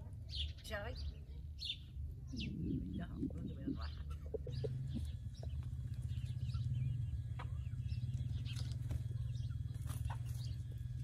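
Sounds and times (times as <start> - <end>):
bird chirps: 0.2 - 11.0
steady low rumble: 1.2 - 11.0.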